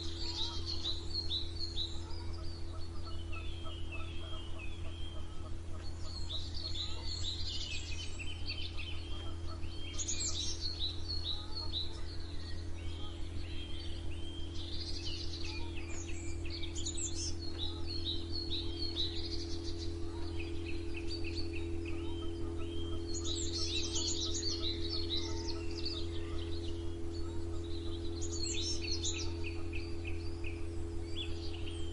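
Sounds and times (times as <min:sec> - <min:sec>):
songbirds chirping: 0:00.0 - 0:31.9
steady low hum: 0:00.0 - 0:31.9.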